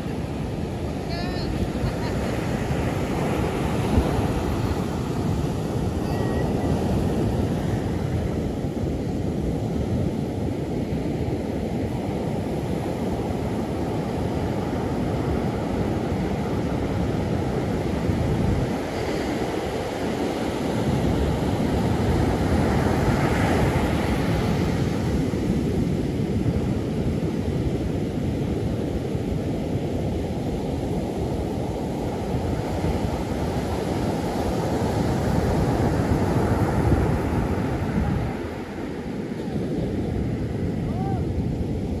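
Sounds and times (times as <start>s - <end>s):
ocean surf breaking: 0.0s - 42.0s
wind rumbling on microphone: 0.0s - 42.0s.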